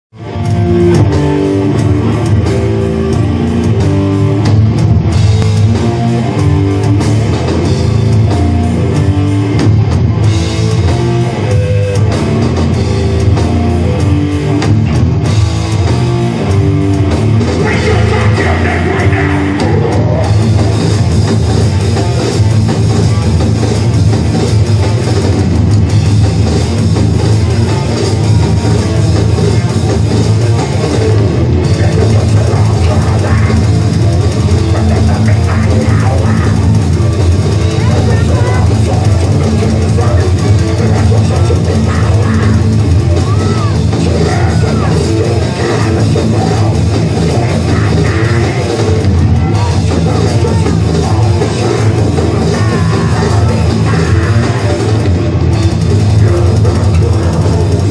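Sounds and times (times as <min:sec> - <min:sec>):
distorted electric guitars: 0:00.0 - 0:57.9
pounding drum kit: 0:00.1 - 0:57.9.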